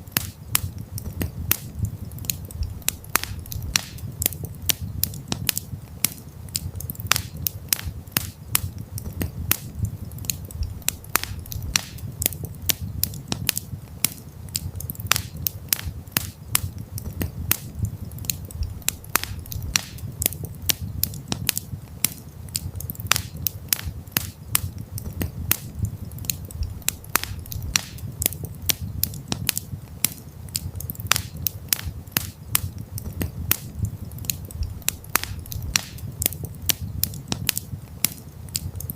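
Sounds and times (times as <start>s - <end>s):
campfire crackling and popping: 0.0s - 38.9s
low rumble of fire: 0.0s - 38.9s.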